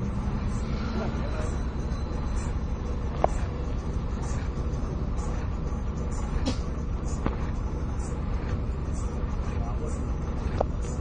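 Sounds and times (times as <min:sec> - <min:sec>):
car engine idling: 0:00.0 - 0:11.0
idling traffic rumble: 0:00.0 - 0:11.0.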